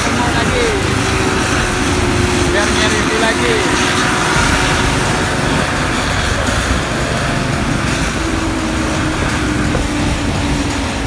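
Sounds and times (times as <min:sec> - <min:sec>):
coach diesel engine droning: 0:00.0 - 0:11.0.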